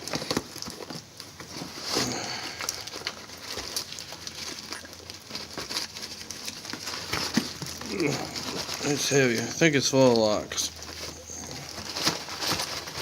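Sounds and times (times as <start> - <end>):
package rustling: 0.0 - 13.0.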